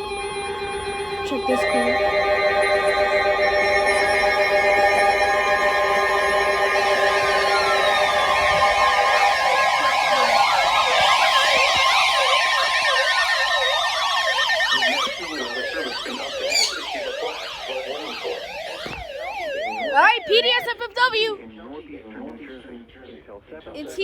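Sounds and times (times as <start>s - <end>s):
gliding descending tones: 0.0s - 20.6s
warbling electronic alert tones: 0.2s - 20.8s.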